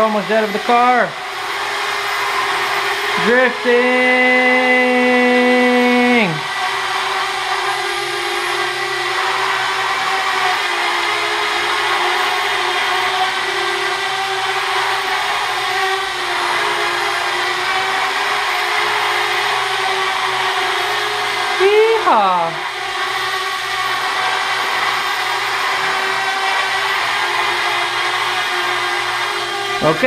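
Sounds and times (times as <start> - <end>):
drone propellers buzzing: 0.0 - 30.0.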